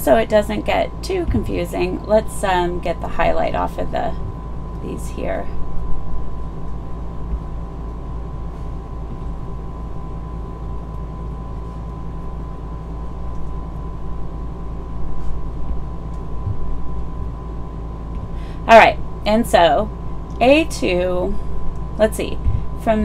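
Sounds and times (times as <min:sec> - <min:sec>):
faint steady whine: 0:00.0 - 0:23.0
low hum and hiss: 0:00.0 - 0:23.0.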